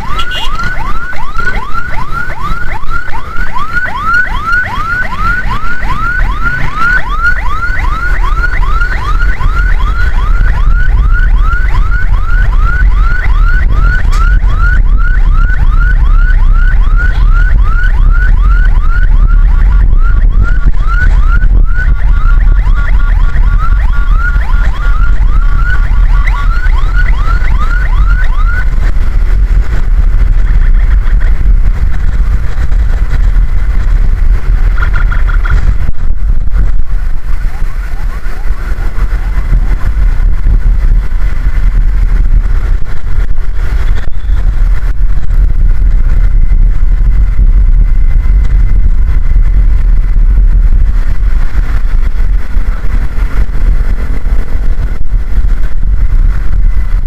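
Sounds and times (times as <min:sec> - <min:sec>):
ambulance siren yelping: 0:00.0 - 0:57.0
vehicle rumble: 0:00.0 - 0:57.0.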